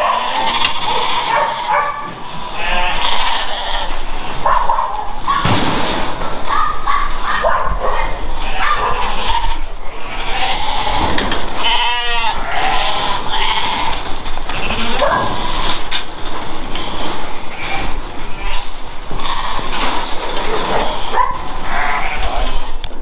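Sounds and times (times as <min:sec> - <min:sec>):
sheep and lambs bleating: 0:00.0 - 0:04.7, 0:08.0 - 0:16.0, 0:16.6 - 0:22.9.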